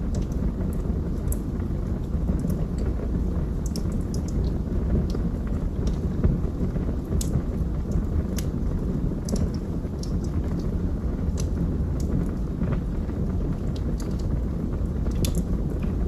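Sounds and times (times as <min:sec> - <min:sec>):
low rumble of flame: 0:00.0 - 0:16.0
wood crackling and popping: 0:00.0 - 0:16.0.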